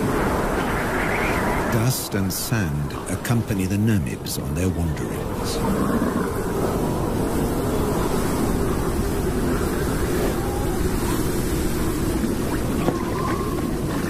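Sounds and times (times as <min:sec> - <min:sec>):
strong wind blowing: 0:00.0 - 0:14.0.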